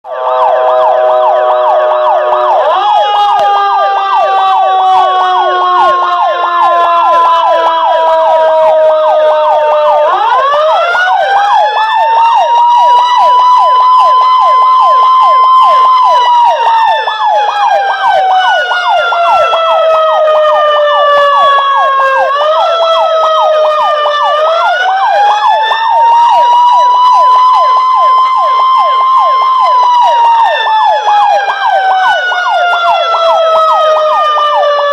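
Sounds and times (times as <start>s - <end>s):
siren wailing: 0.0s - 34.9s.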